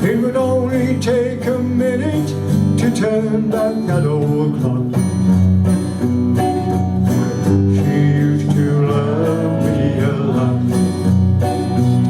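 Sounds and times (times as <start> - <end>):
country band instrumental: 0.0 - 12.0.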